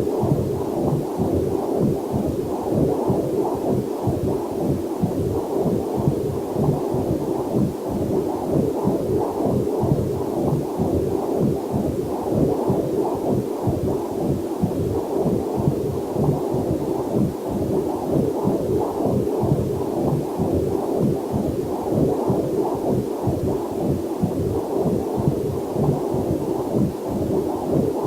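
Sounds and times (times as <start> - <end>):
whooshing heartbeat on doppler monitor: 0.0 - 28.0.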